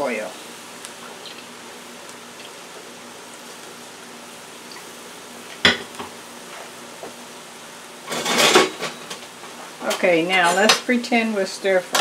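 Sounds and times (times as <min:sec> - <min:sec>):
rice sizzling in frying pan: 0:00.0 - 0:12.0.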